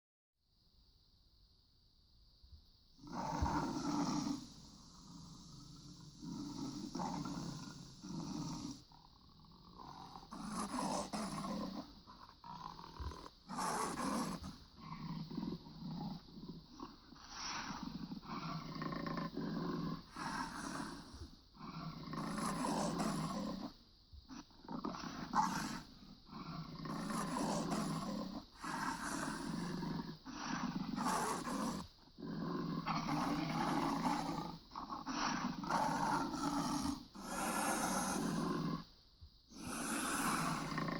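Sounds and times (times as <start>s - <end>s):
big cat growling roars: 3.0s - 23.7s, 24.8s - 38.8s, 39.5s - 40.9s.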